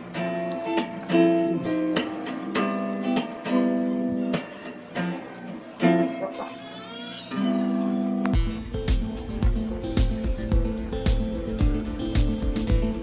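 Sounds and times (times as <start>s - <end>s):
plucked guitar music with beat: 0.0s - 6.7s, 7.3s - 13.0s.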